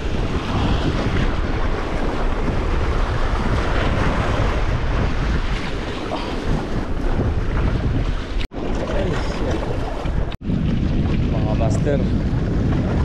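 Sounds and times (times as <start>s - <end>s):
sea wash: 0.0s - 13.0s
wind buffeting microphone: 0.0s - 13.0s.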